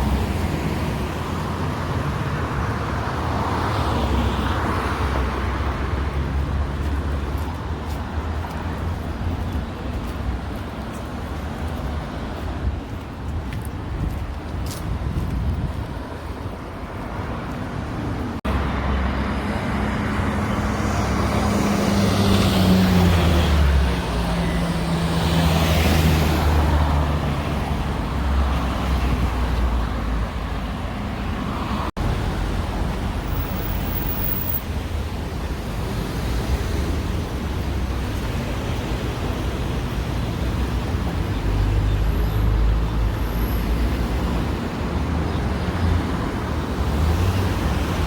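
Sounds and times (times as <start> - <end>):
street traffic hum: 0.0 - 48.0.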